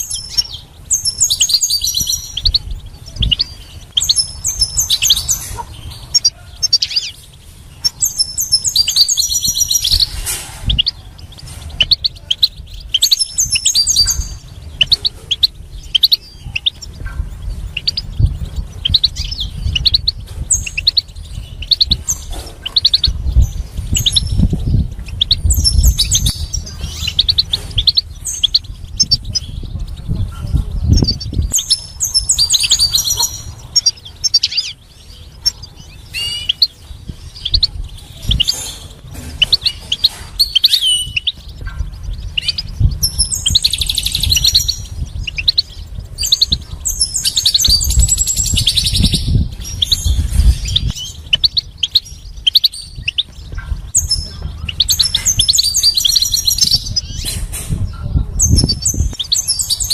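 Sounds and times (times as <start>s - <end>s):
goldfinch singing: 0.0s - 59.9s
low rumble: 6.8s - 59.9s.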